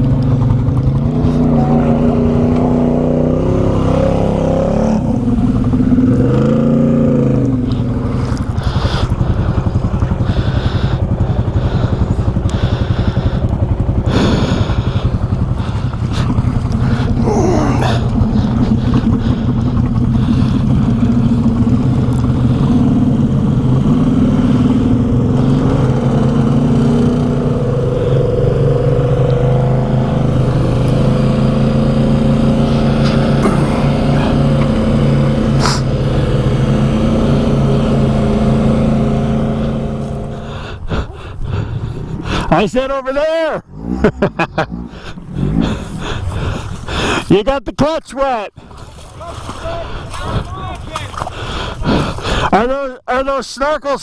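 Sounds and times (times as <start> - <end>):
atv engine revving: 0.0 - 47.3, 48.6 - 52.8.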